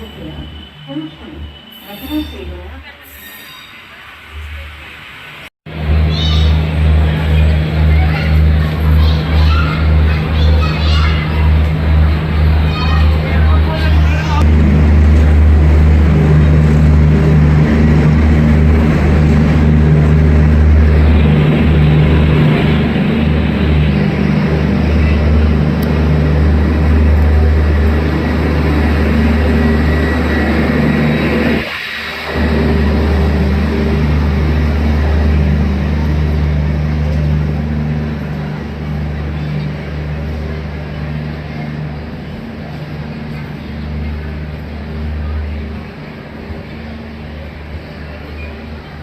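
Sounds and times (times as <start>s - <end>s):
train rumble and hum: 0.0s - 49.0s
steady tones: 5.7s - 49.0s.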